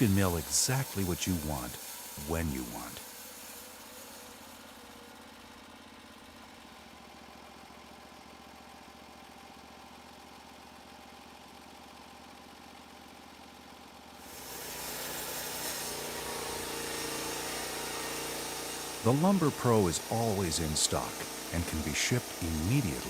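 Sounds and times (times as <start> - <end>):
small gas engine idling: 0.0 - 14.6, 16.0 - 23.0.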